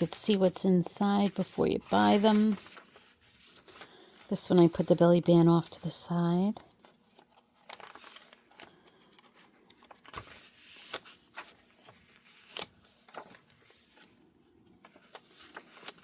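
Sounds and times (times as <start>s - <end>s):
paper rustling: 0.0s - 16.0s.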